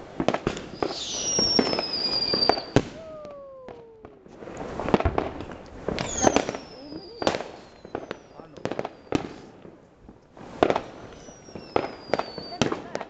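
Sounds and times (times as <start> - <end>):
fireworks falling whistles: 0.0 - 9.6, 10.4 - 13.0
fireworks bangs and crackling: 0.0 - 13.0.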